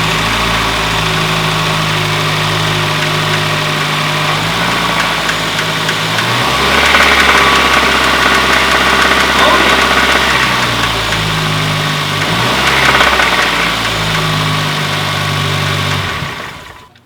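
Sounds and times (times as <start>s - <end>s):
car engine idling with knock: 0.0s - 17.0s.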